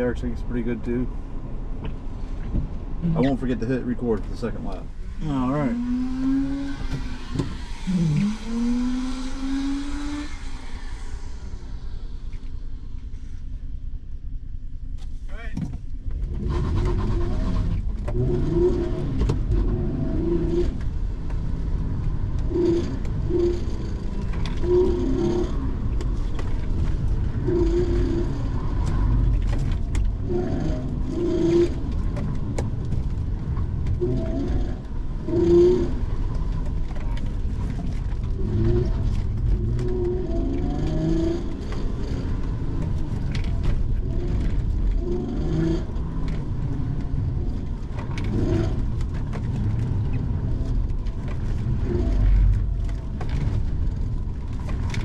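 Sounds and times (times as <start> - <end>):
car engine revving: 0.0 - 13.6, 16.2 - 55.0.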